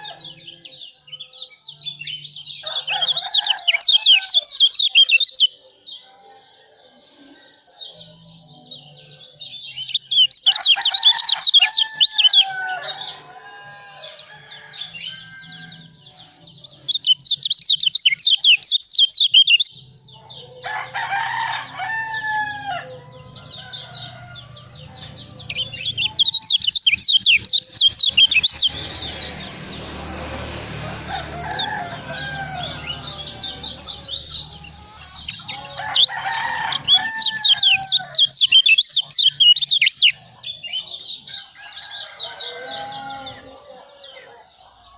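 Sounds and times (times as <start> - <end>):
songbird chirping twitters: 0.0 - 44.9.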